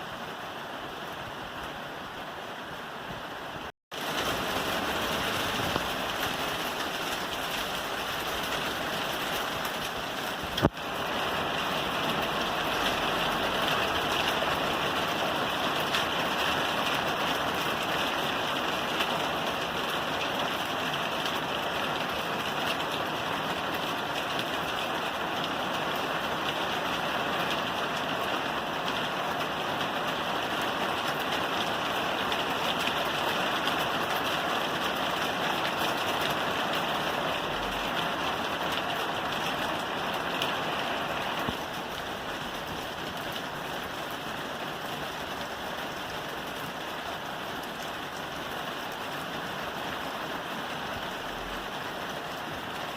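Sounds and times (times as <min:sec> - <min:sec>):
heavy rain on a roof: 0:00.0 - 0:52.9.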